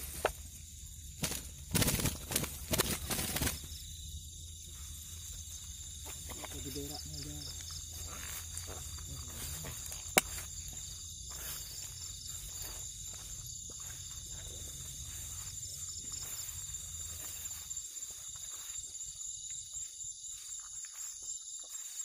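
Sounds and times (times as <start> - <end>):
crickets and insects trilling: 0.0 - 22.0
rustles: 0.0 - 22.0.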